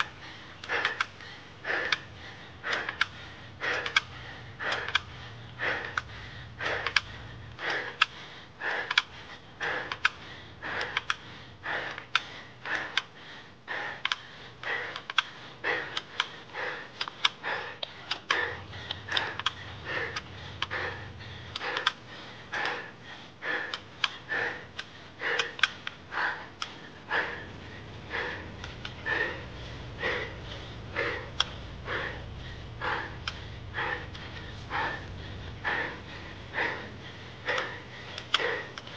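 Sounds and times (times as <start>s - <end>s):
hard rapid breathing: 0.0s - 38.9s.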